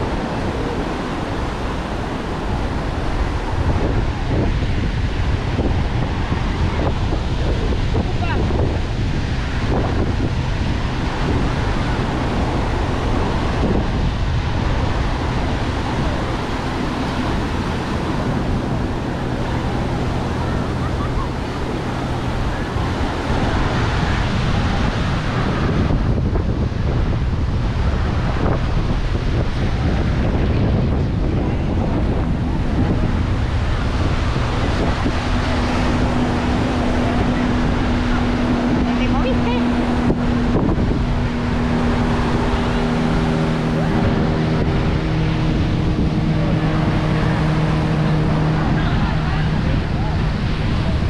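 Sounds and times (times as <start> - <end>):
ocean surf breaking: 0.0 - 51.0
steady engine hum: 0.0 - 51.0
wind buffeting microphone: 0.0 - 51.0.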